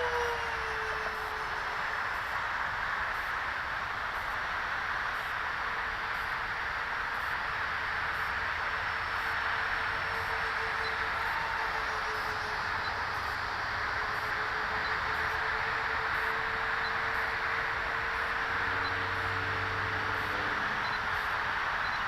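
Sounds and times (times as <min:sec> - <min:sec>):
model jet motors rushing hiss: 0:00.0 - 0:21.8.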